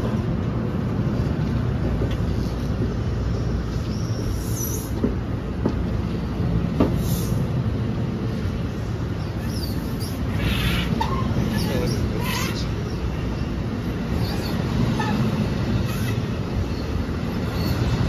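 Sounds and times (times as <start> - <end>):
train wheels rumbling on rail: 0.0 - 18.0
high squeal of train: 1.2 - 18.0.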